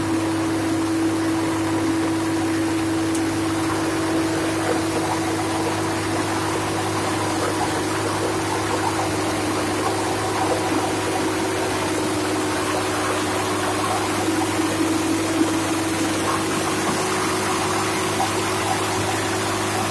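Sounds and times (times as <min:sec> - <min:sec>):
drilling rig engine droning: 0:00.0 - 0:19.9.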